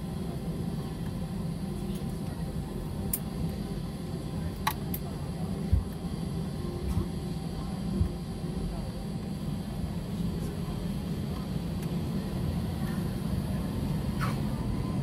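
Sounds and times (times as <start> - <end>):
aircraft cabin engine hum: 0.0 - 15.0.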